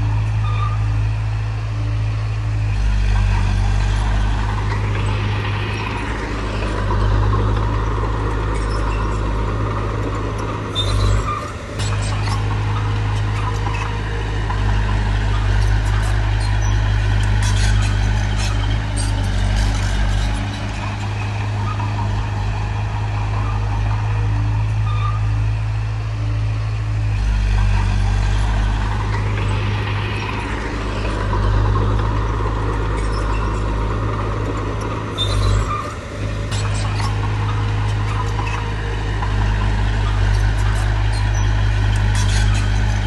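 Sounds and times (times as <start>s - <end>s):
heavy diesel machinery engine drone: 0.0s - 43.0s.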